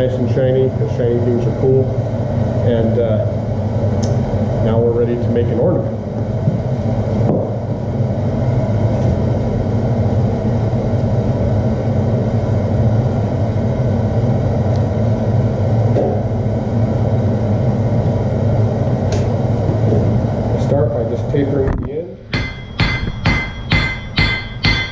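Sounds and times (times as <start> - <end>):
forge low drone: 0.0 - 24.9.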